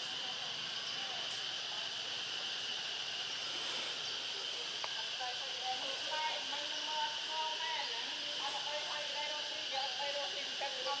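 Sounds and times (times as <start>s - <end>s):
high-pitched insect drone: 0.0s - 11.0s
outdoor background noise: 0.0s - 11.0s.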